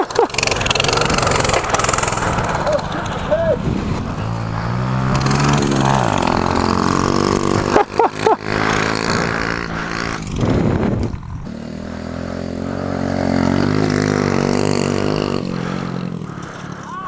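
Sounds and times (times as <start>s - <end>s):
mini bike engine revving: 0.0s - 17.0s.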